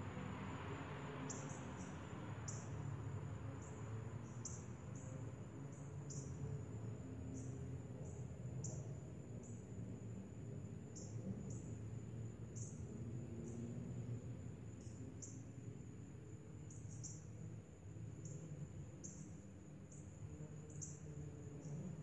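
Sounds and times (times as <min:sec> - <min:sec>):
high-pitched insect trill: 0:00.5 - 0:22.0.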